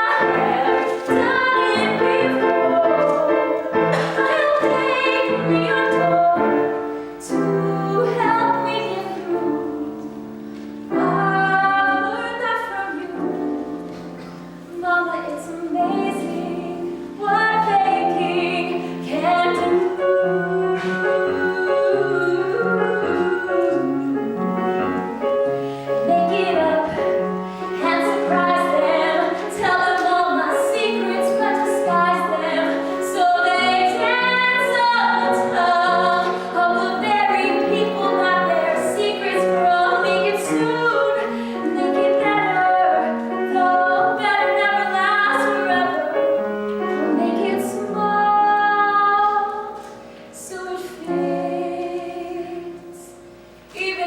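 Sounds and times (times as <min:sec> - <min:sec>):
woman singing a ballad: 0:00.0 - 0:10.0, 0:11.0 - 0:13.8, 0:14.7 - 0:24.2, 0:26.0 - 0:46.2, 0:46.9 - 0:54.0
piano accompaniment: 0:00.0 - 0:54.0.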